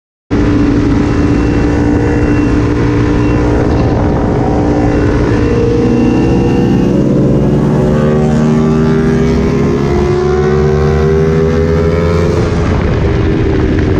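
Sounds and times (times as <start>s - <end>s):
motorcycle engine accelerating: 0.3s - 13.9s.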